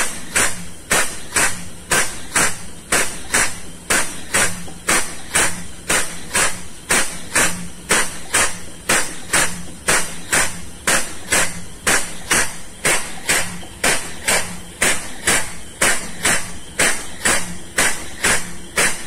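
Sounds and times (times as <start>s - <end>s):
diaphragm pump puffing exhaust air: 0.0s - 19.0s.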